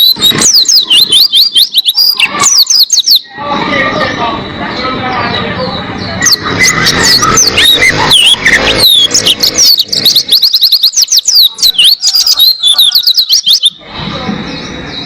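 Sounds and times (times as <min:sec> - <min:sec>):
bird singing high chirps: 0:00.0 - 0:13.8.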